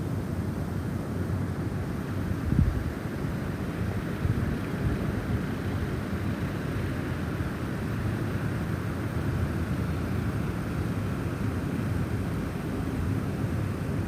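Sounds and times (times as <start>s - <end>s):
snowstorm wind blowing: 1.6s - 14.0s.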